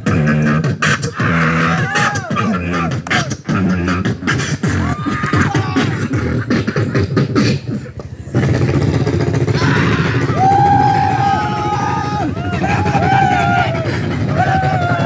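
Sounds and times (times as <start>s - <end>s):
beatboxing into a microphone: 0.0s - 15.0s.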